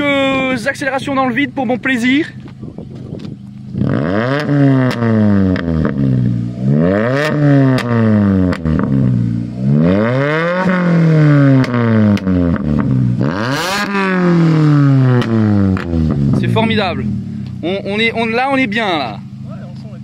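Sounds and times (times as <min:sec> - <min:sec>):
car engine revving: 0:00.0 - 0:20.0
exhaust crackles: 0:00.0 - 0:20.0.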